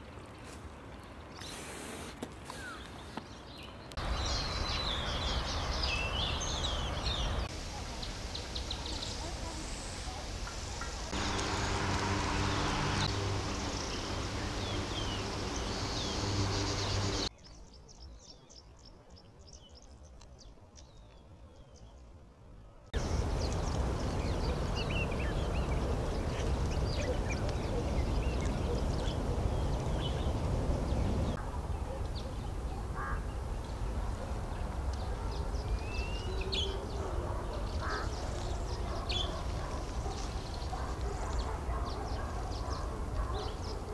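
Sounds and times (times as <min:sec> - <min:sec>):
small birds chirping: 0:02.4 - 0:22.1, 0:23.0 - 0:43.9.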